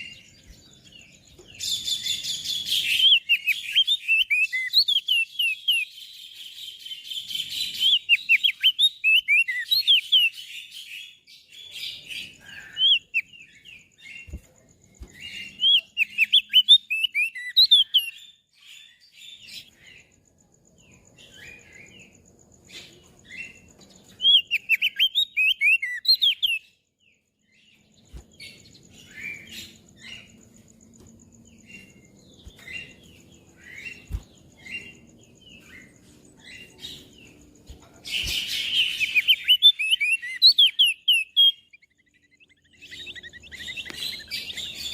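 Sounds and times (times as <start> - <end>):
bird twittering chirps: 0.0 - 44.9.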